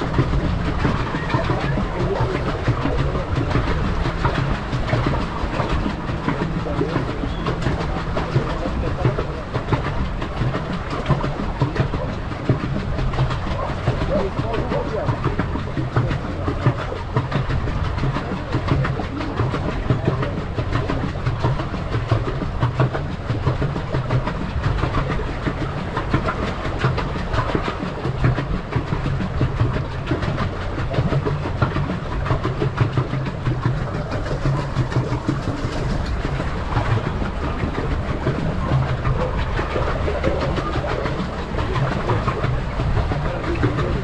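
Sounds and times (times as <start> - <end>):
paddle wheel churning water: 0.0 - 44.0.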